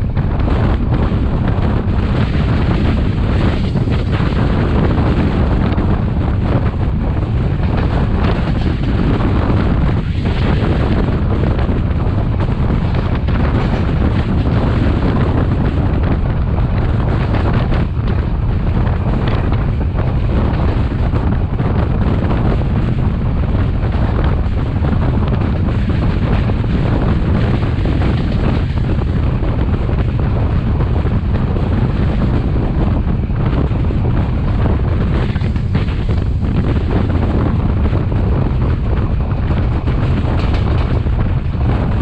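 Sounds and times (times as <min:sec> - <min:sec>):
train rumbling: 0:00.0 - 0:42.0
wind buffeting microphone: 0:00.0 - 0:42.0.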